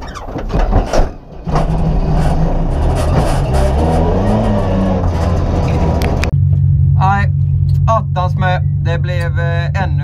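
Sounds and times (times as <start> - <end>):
car engine under load: 0.0 - 10.0.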